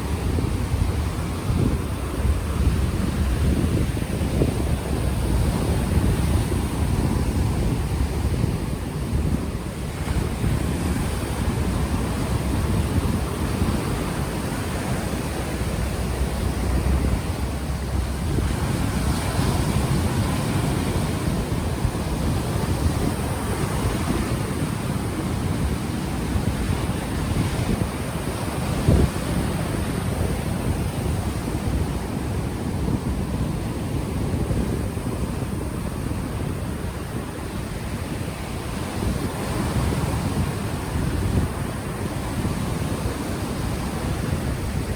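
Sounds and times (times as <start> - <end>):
ocean waves washing in: 0.0 - 44.9
wind buffeting microphone: 0.0 - 44.9.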